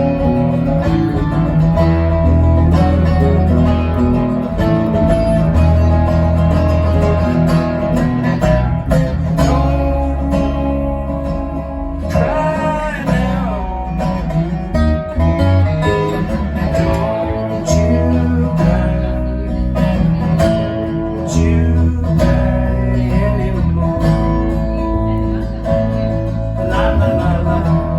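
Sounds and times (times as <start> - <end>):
guitars: 0.0 - 27.9
live band playing: 0.0 - 27.9.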